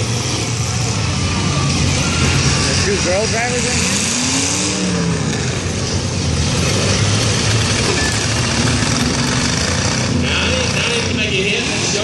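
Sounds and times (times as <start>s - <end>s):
car engines running: 0.0s - 12.0s
engine revving: 0.0s - 12.0s.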